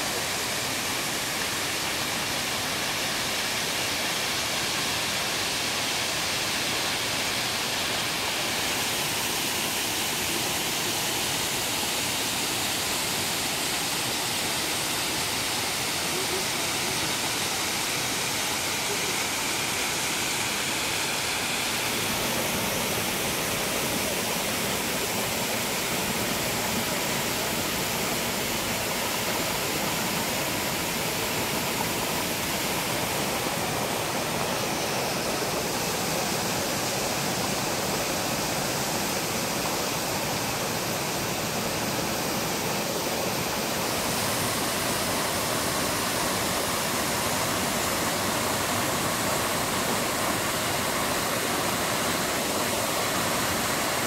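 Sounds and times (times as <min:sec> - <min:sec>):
waterfall rushing onto rocks: 0:00.0 - 0:54.0.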